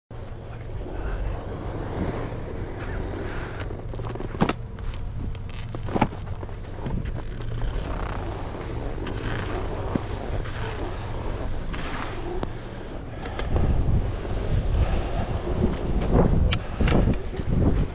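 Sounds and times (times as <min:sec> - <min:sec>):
wind buffeting microphone: 0:00.2 - 0:17.9.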